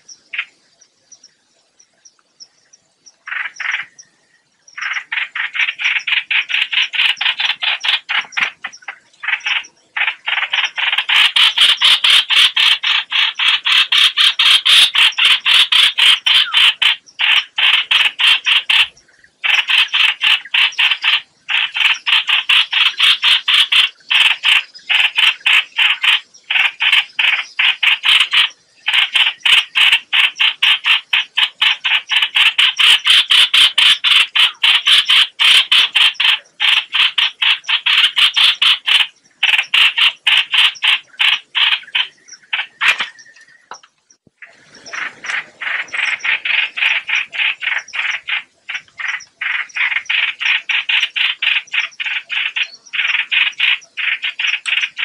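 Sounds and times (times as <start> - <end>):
bird distress calls harsh chattering: 3.2 - 4.1, 4.7 - 43.8, 44.4 - 55.0.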